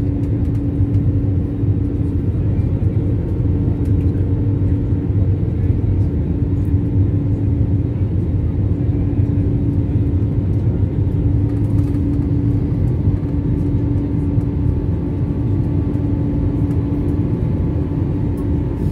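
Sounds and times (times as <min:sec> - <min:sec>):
airliner engines droning: 0:00.0 - 0:18.9.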